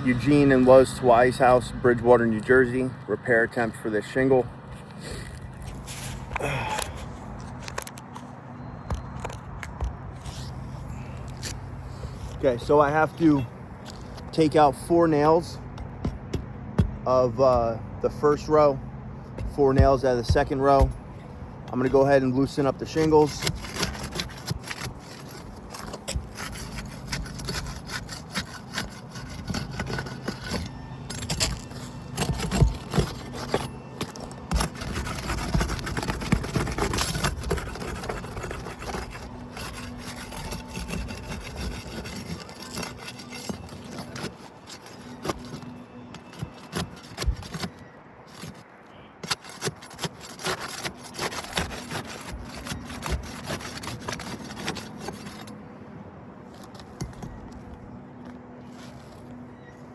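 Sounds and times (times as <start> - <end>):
hand tool scraping shingles: 3.6 - 8.1, 8.9 - 55.6, 56.5 - 57.8.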